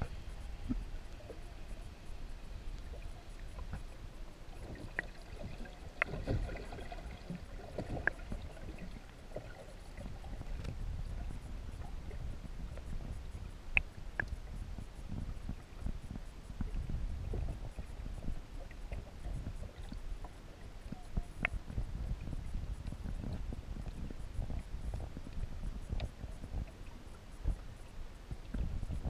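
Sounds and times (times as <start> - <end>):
muffled underwater rumble: 0.0 - 29.0.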